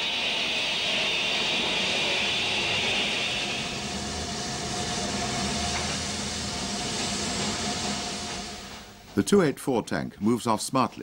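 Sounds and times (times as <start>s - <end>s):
hiss of steam: 0.0s - 9.0s
faint steady whine: 0.0s - 9.6s.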